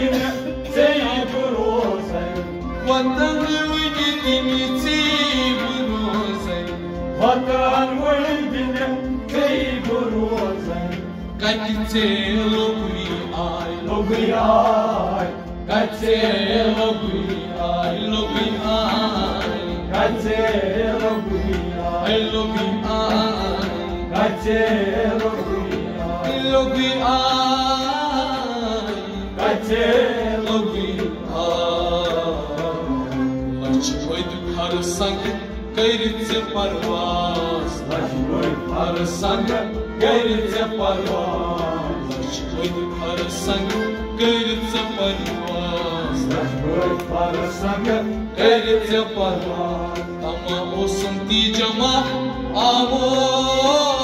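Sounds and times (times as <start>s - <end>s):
folk music melody: 0.0s - 54.0s
hand drum beat: 0.0s - 54.0s.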